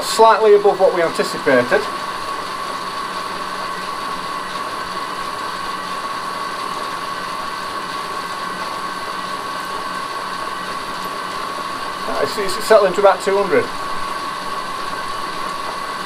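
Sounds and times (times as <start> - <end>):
bicycle generator whirring: 0.0 - 16.0.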